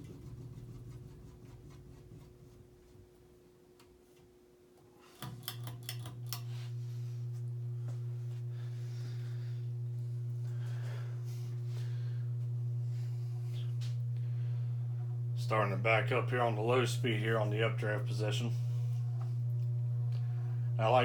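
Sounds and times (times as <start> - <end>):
ceiling fan motor hum: 0.0 - 21.0.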